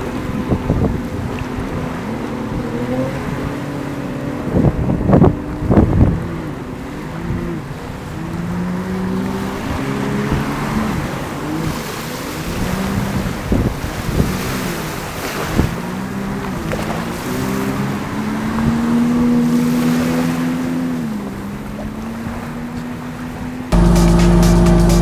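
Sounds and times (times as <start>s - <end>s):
wind buffeting microphone: 0.0s - 23.9s
small waves lapping: 0.0s - 24.4s
jet ski engine: 0.0s - 25.0s.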